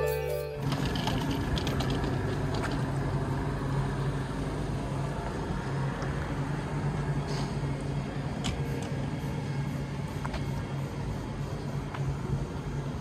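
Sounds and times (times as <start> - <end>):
electric train hum and rumble: 0.0 - 13.0.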